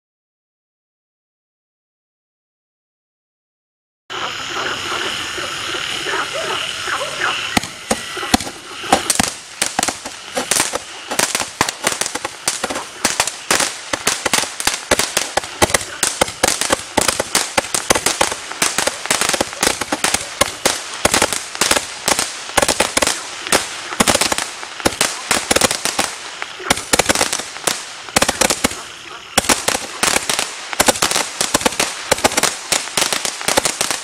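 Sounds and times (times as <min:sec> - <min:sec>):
firework bangs and crackles: 0:04.2 - 0:34.0.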